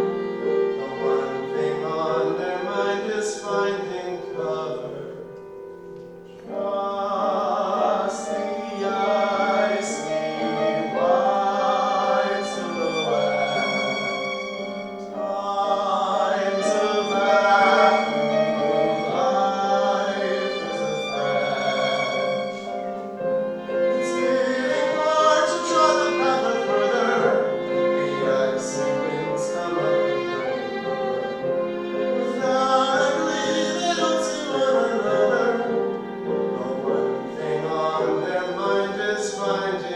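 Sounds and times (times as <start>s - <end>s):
voices singing in harmony: 0.0s - 5.4s, 6.4s - 39.9s
instrumental accompaniment: 0.0s - 39.9s.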